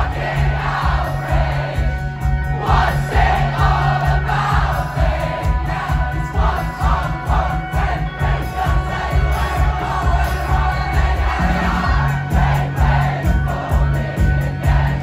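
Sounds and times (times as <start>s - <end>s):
crowd singing along: 0.0s - 15.0s
live band playing: 0.0s - 15.0s.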